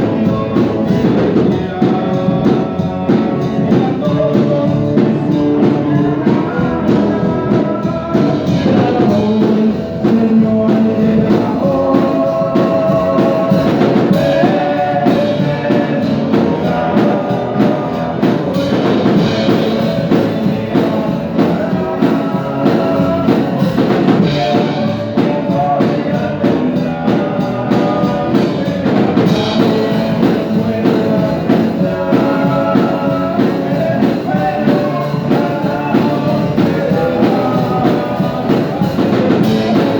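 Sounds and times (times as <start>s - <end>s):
song with singing and drums: 0.0s - 39.9s.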